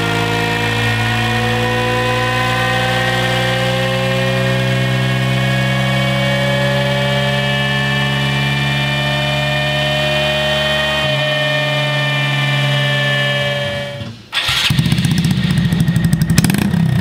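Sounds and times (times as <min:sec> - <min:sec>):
motorcycle engine revving under load: 0:00.0 - 0:17.0.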